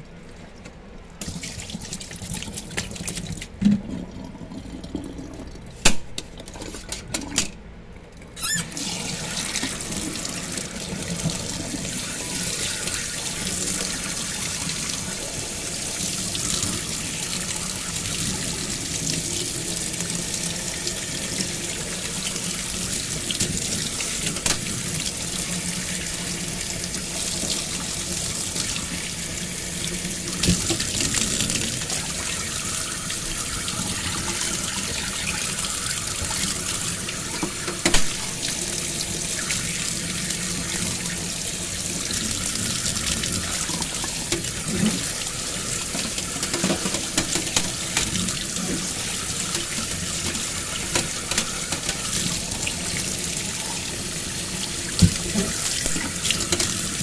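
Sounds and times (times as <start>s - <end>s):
tap water running and splashing: 1.2s - 7.5s, 8.4s - 57.0s.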